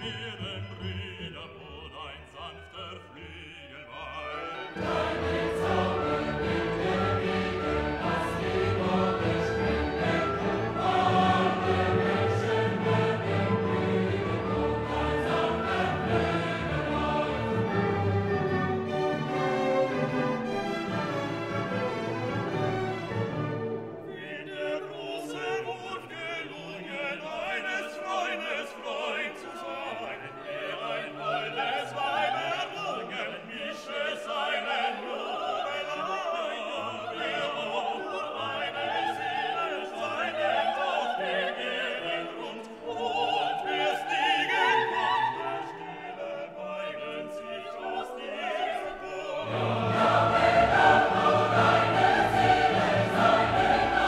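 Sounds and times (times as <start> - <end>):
operatic singing with choir and orchestra: 0.0 - 54.0.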